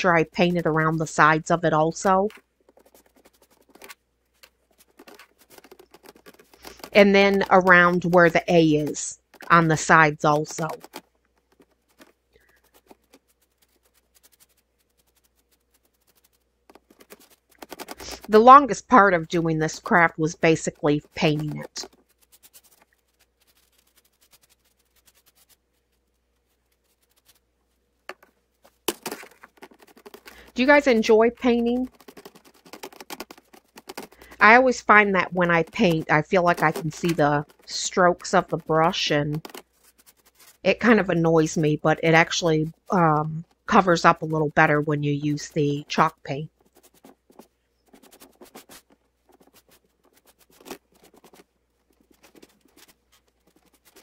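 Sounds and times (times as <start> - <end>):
paintbrush scratchy brushing: 0.0 - 54.0.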